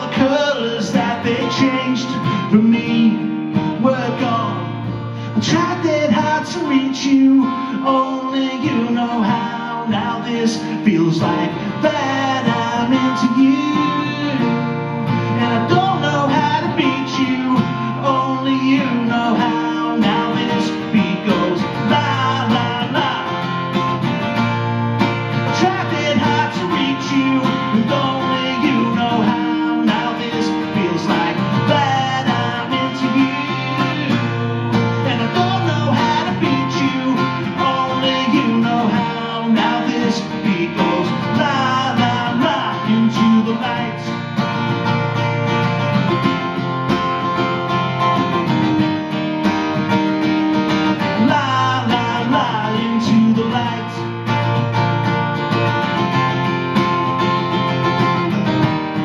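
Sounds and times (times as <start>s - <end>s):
acoustic guitar strummed: 0.0s - 59.0s.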